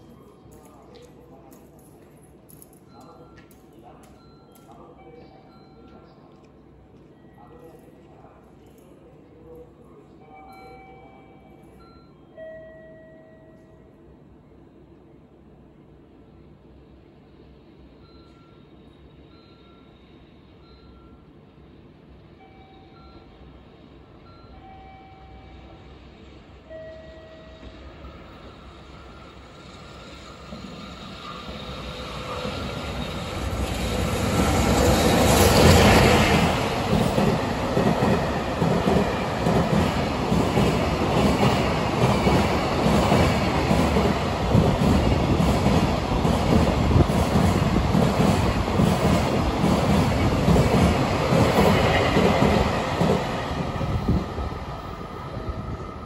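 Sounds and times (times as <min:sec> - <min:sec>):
electric locomotive passing: 0:00.0 - 0:56.0.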